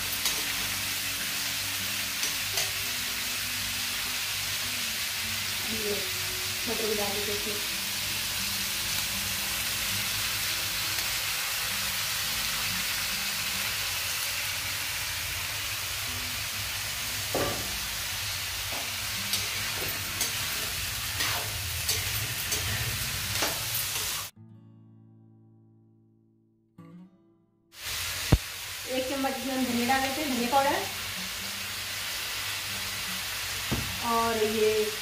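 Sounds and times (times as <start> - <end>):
vegetables sizzling in oil: 0.0 - 24.3, 27.8 - 35.0.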